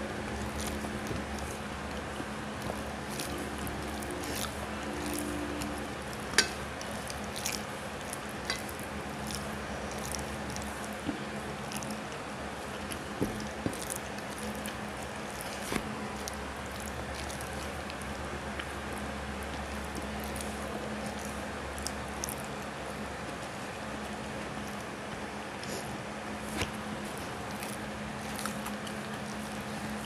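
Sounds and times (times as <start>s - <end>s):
food squished by hand: 0.0s - 22.7s, 25.7s - 30.0s
steady low hum: 0.0s - 30.0s.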